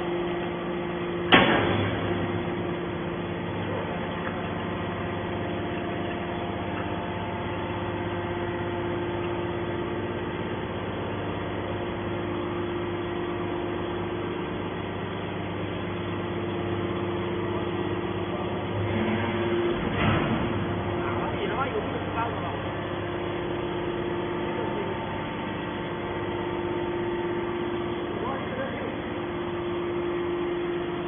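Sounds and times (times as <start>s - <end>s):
hydraulic baler humming: 0.0s - 31.0s.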